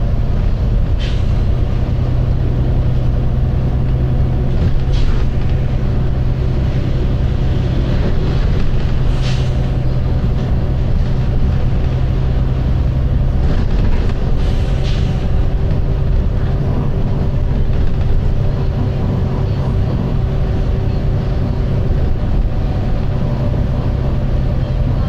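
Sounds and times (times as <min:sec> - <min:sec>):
bus engine droning: 0:00.0 - 0:25.0.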